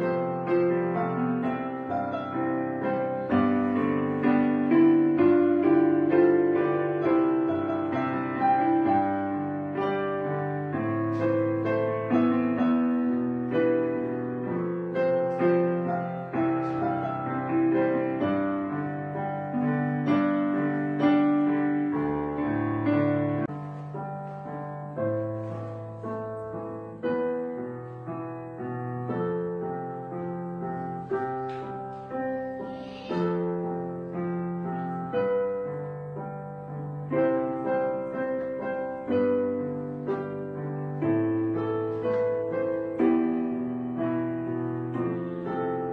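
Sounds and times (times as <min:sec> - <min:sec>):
gentle piano music: 0:00.0 - 0:45.9.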